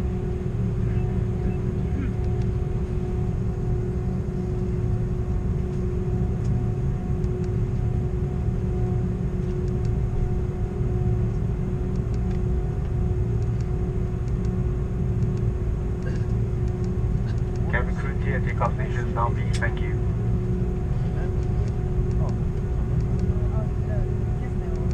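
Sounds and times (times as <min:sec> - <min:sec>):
aircraft cabin rumble: 0:00.0 - 0:24.9
engine hum: 0:00.0 - 0:24.9.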